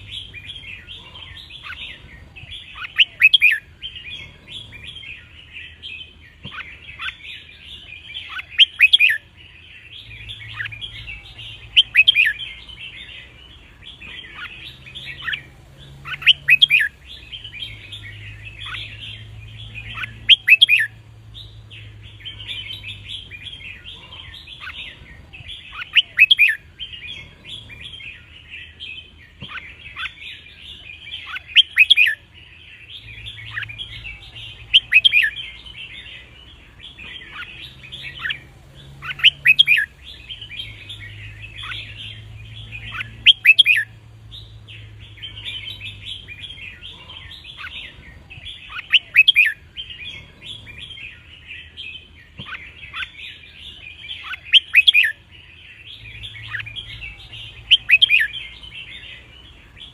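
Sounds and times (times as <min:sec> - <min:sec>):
bird song phrases: 0:00.0 - 0:59.9
birds chattering: 0:00.0 - 0:59.9.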